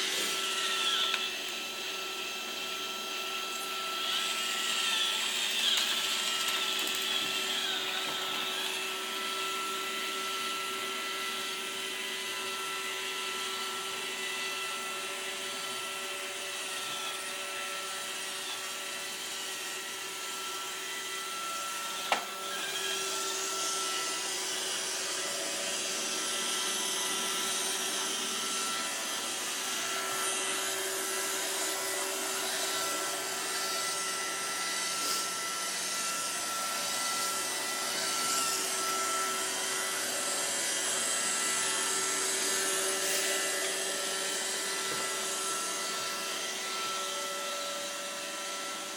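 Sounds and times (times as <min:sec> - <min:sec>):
robot vacuum running: 0:00.0 - 0:48.9.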